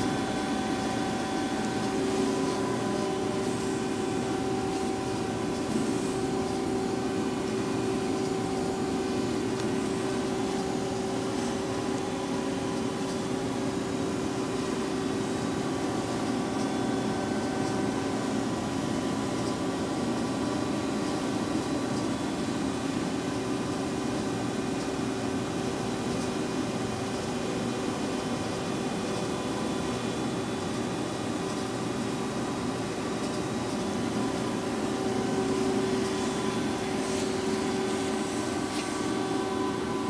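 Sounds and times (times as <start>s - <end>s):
machine spindle humming and whining: 0.0s - 40.0s.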